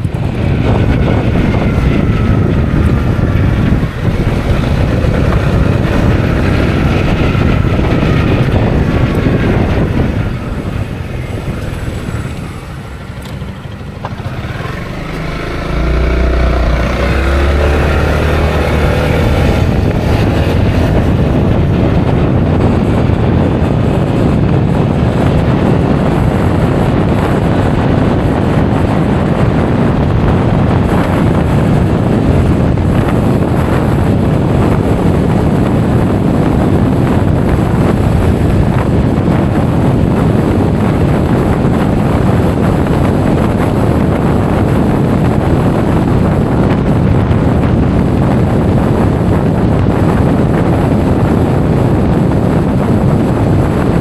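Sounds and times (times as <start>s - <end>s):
scooter engine running: 0.0s - 54.0s
wind rushing over microphone: 0.0s - 54.0s.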